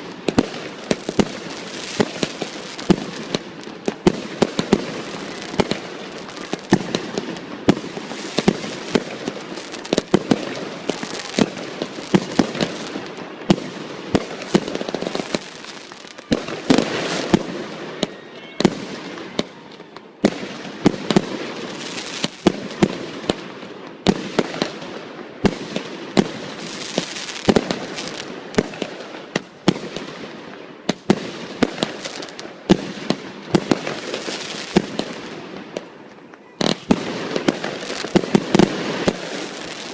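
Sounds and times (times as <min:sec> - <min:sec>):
fireworks bangs: 0:00.0 - 0:39.9
fireworks hissing and crackling: 0:00.0 - 0:39.9.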